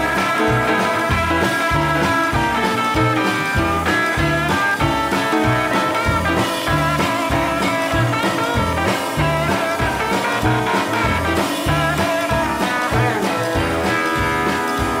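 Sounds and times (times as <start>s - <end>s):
drums: 0.0s - 15.0s
electric guitar: 0.0s - 15.0s
piano: 0.0s - 15.0s
walking double bass: 0.0s - 15.0s.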